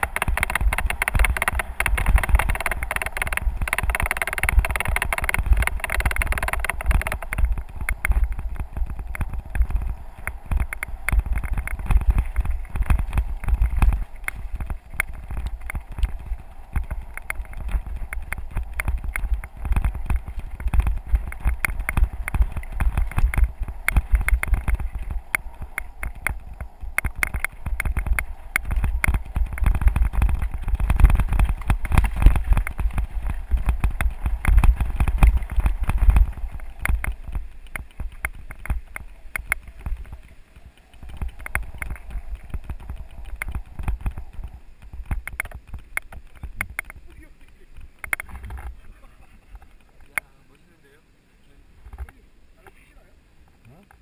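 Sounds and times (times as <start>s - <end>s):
bicycle rattling: 0.0s - 50.2s
wind buffeting microphone: 0.0s - 50.2s
bicycle tyres crunching on gravel: 0.0s - 50.6s.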